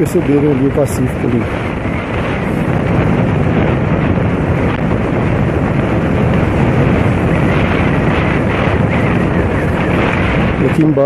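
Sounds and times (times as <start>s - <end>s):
motorcycle running: 0.0s - 11.0s
road noise: 0.0s - 11.0s
wind buffeting microphone: 0.0s - 11.0s.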